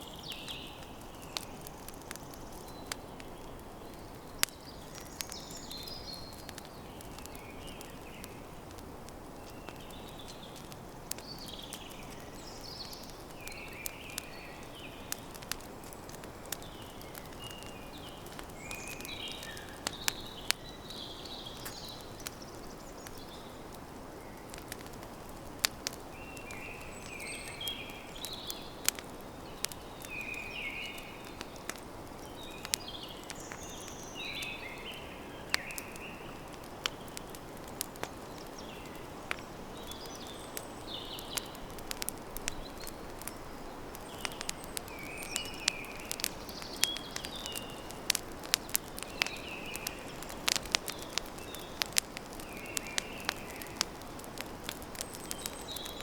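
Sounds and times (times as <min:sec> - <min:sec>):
birds chirping: 0:00.0 - 0:08.8, 0:09.4 - 0:56.0
campfire crackling and popping: 0:00.0 - 0:56.0.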